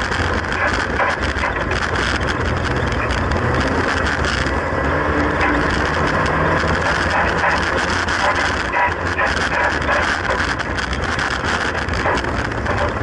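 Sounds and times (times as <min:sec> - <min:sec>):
car body rattling: 0:00.0 - 0:13.0
race car engine running hard: 0:00.0 - 0:13.0.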